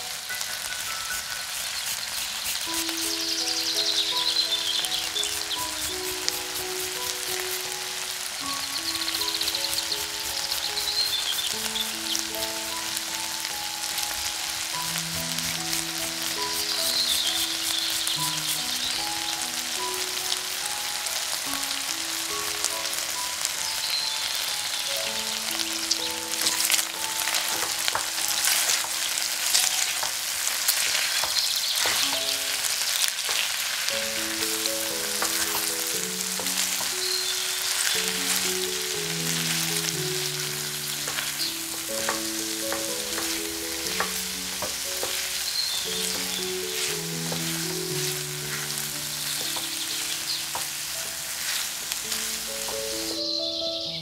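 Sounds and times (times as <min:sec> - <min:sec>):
food sizzling in a pan: 0:00.0 - 0:54.0
background music: 0:02.6 - 0:31.1, 0:31.8 - 0:54.0.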